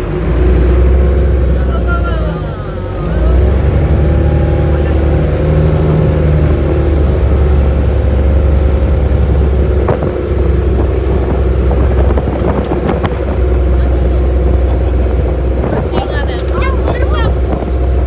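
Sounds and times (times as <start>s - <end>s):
boat engine drone: 0.0s - 18.0s
water rushing past hull: 0.0s - 18.0s.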